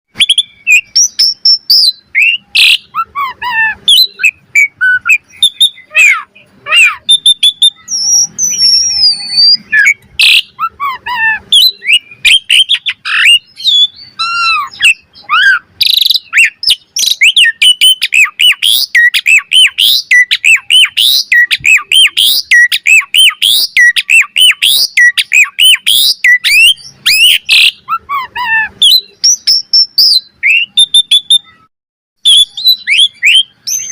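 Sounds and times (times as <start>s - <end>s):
starling singing: 0.1s - 33.9s.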